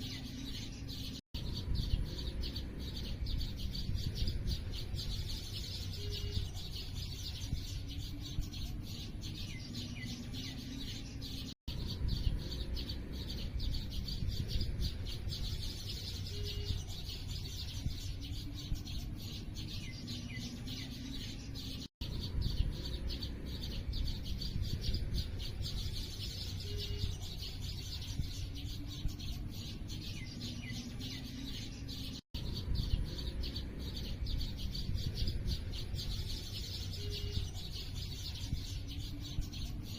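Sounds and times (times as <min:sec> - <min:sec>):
small birds chirping: 0:00.0 - 0:39.9
steady low rumble: 0:00.1 - 0:31.2, 0:31.8 - 0:39.9.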